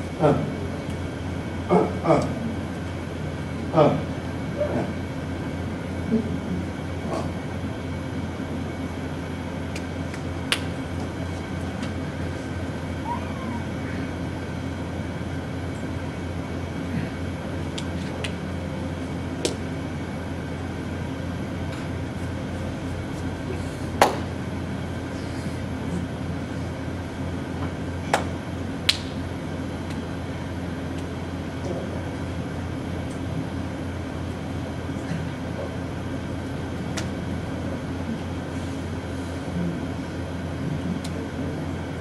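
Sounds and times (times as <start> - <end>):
low room hum: 0.0 - 42.0.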